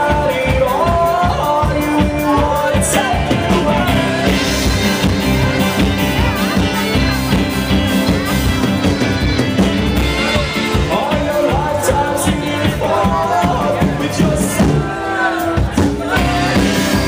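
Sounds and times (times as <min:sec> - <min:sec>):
live band playing: 0:00.0 - 0:17.0
steady drum beat: 0:00.0 - 0:17.0.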